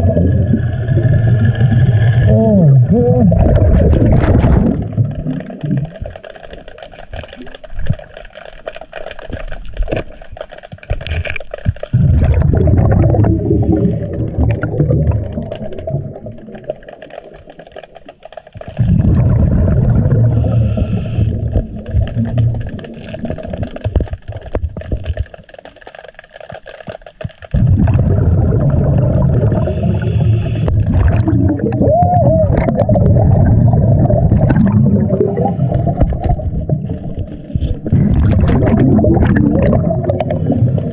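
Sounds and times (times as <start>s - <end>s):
breath bubbling underwater: 0.0s - 8.2s, 9.4s - 25.4s, 27.5s - 40.9s.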